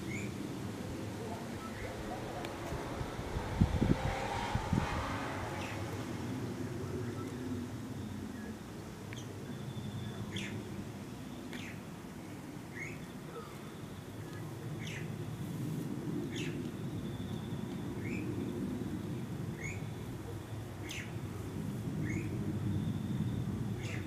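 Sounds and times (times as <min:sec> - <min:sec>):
birds chirping: 0:00.0 - 0:15.4, 0:16.2 - 0:24.0.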